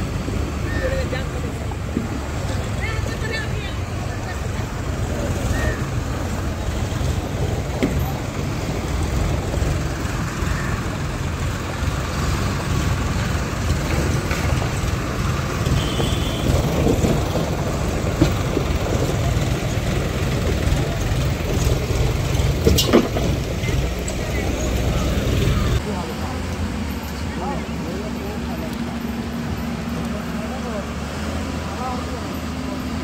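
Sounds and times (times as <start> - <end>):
diesel engine rumbling: 0.0 - 33.0.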